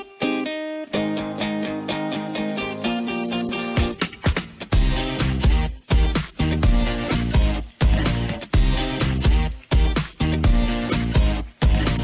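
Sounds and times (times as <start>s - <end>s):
music with steady beat and bass: 0.0s - 12.0s.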